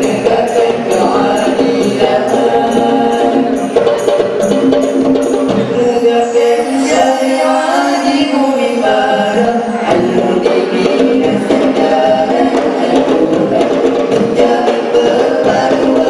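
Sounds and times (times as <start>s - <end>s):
male vocal group singing in harmony: 0.0s - 16.0s.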